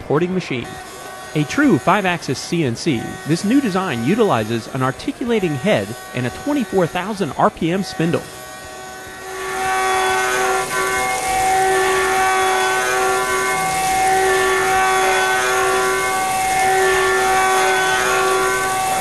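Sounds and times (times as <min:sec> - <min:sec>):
machine spindle whining: 0:00.0 - 0:19.0.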